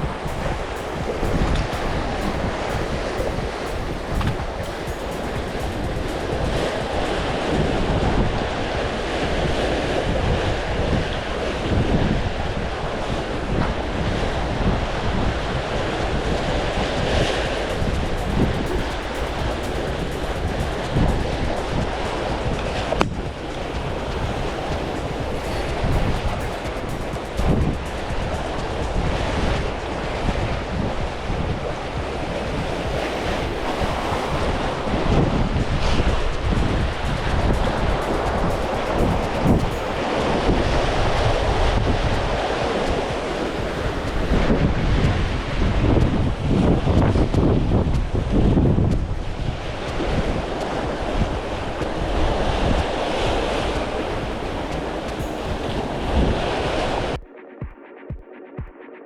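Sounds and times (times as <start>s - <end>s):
seawater lapping against seawall: 0.0s - 57.2s
wind rumbling on microphone: 0.0s - 57.3s.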